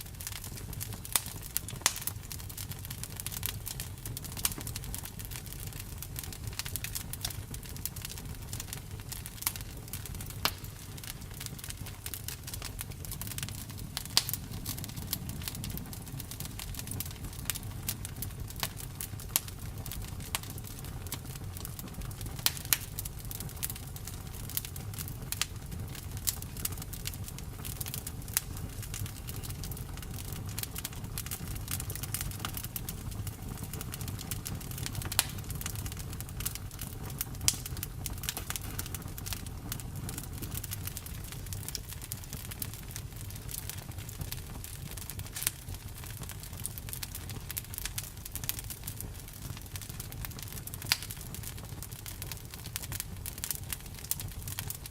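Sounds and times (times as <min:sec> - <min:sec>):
low rumble of flames: 0:00.0 - 0:54.9
wood crackling and popping: 0:00.0 - 0:54.9.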